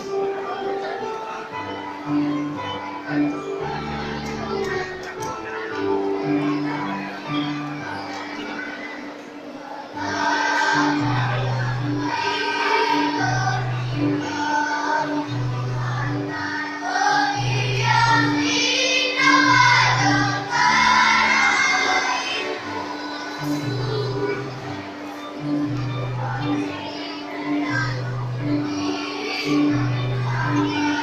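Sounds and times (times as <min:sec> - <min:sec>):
choir singing: 0:00.0 - 0:31.0
held low accompaniment notes: 0:00.0 - 0:31.0.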